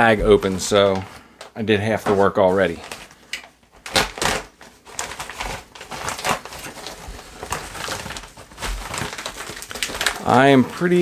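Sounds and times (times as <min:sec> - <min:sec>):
plastic mailer crinkling: 0:02.0 - 0:11.0.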